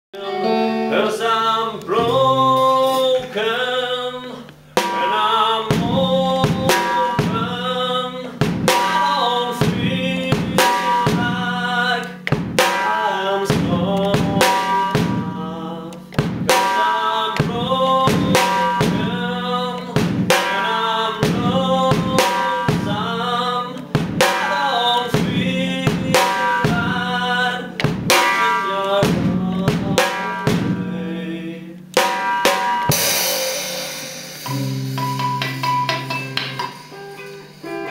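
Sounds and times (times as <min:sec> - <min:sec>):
band playing: 0:00.2 - 0:03.6, 0:04.6 - 0:37.9
drum kit hits: 0:04.8 - 0:37.9.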